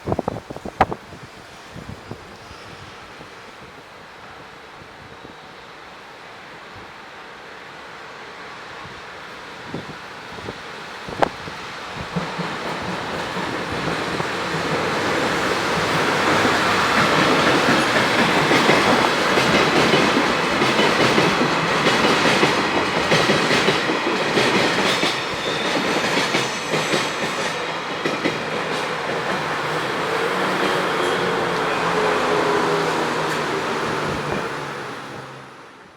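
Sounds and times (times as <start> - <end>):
freight train passing: 0.0 - 35.9.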